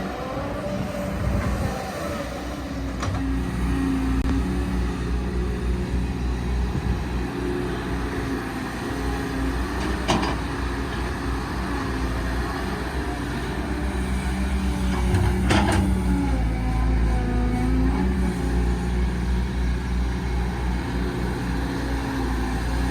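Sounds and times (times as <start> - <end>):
excavator diesel engine working: 0.0 - 22.9.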